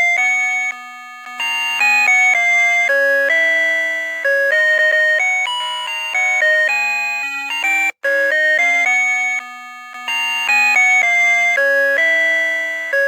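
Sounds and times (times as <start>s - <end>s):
electronic alarm clock melody: 0.0s - 13.0s.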